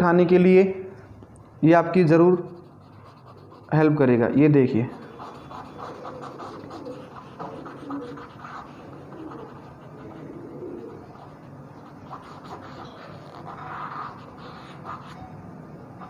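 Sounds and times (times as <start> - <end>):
cotton bud scratching on paper: 2.0 - 15.3.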